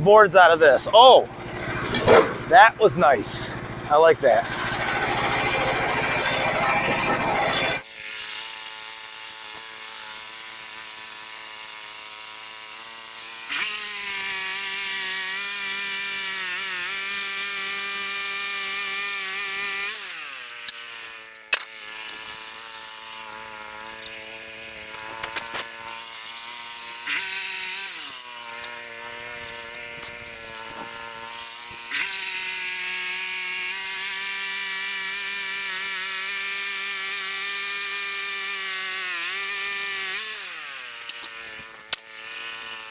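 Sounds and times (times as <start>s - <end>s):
sawmill engine running: 0.0s - 42.9s
blade sawing through log: 0.4s - 42.9s.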